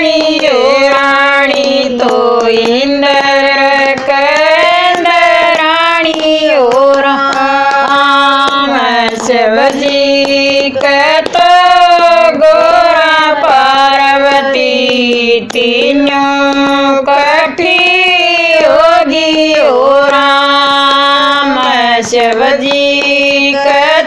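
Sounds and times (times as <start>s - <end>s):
hand claps: 0.0s - 24.0s
women singing together: 0.0s - 24.0s.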